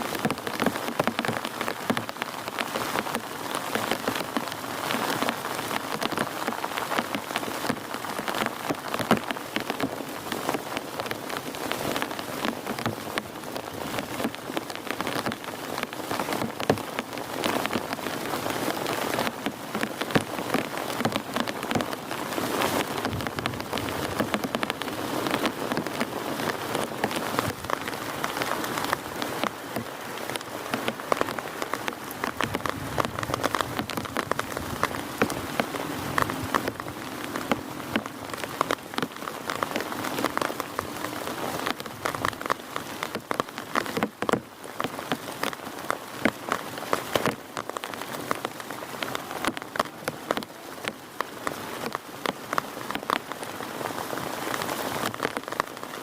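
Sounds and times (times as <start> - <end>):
heavy rain hiss: 0.0 - 56.0
raindrops hitting a surface: 0.0 - 56.0.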